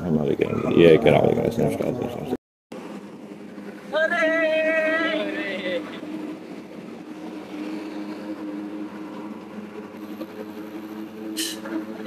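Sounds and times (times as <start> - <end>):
road and wind noise: 0.0 - 12.0
vehicle engine humming: 0.0 - 12.0.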